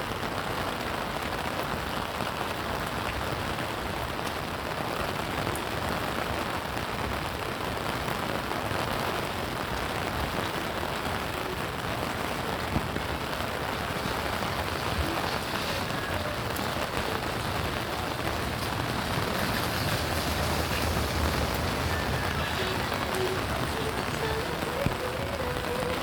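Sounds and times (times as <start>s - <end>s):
rain pattering on surfaces: 0.0s - 26.0s.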